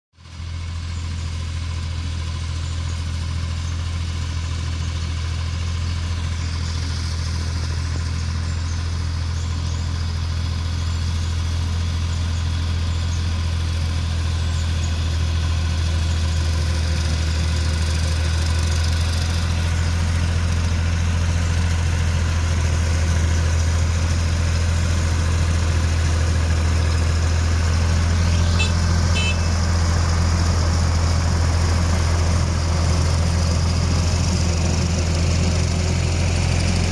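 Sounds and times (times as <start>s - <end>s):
diesel tractor with rotary cutter: 0.2s - 36.9s.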